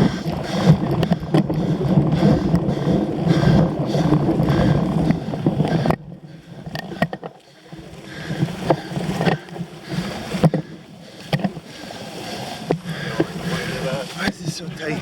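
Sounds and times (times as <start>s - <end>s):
wind and bike riding noise: 0.0s - 15.0s.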